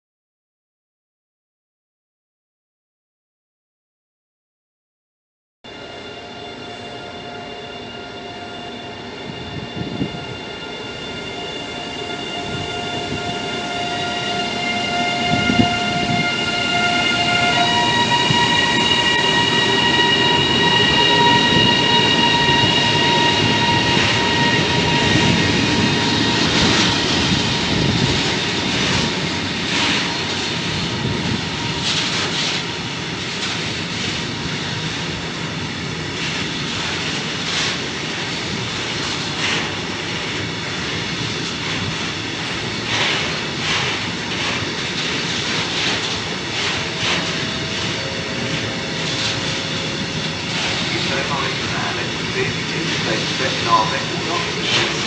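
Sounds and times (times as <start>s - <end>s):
locomotive whine: 5.7s - 55.0s.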